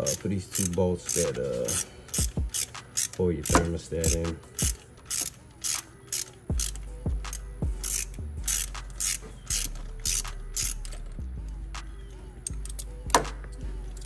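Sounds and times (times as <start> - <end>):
socket ratchet clicking: 0.0 - 11.2, 12.4 - 14.0.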